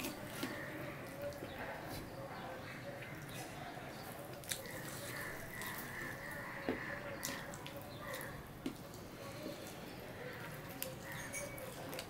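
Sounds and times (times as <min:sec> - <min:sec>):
fingers squishing wet rice: 0:00.0 - 0:11.2.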